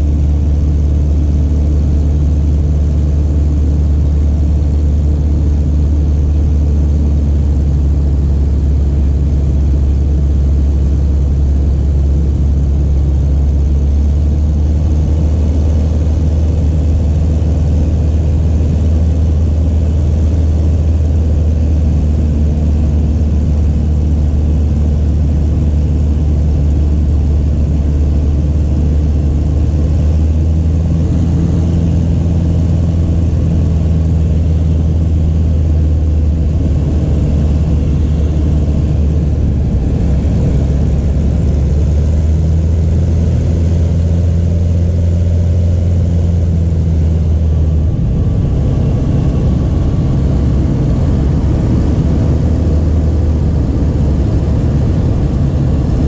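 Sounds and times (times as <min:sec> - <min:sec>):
propeller plane engine droning: 0:00.0 - 0:56.0.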